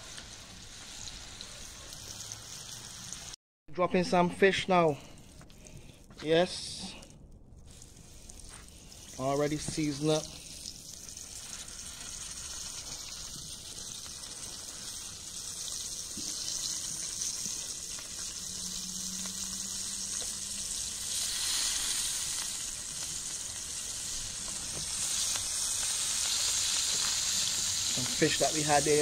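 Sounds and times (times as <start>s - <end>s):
fish frying in hot oil: 0.0s - 3.4s, 7.7s - 29.0s.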